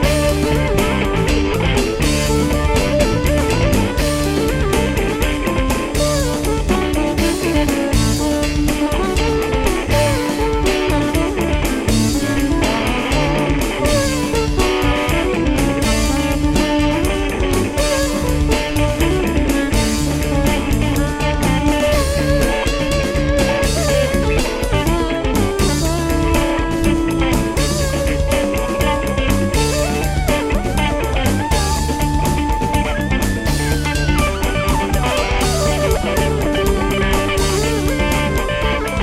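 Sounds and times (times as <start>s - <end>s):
electric guitar solo: 0.0s - 39.0s
rock band playing: 0.0s - 39.0s.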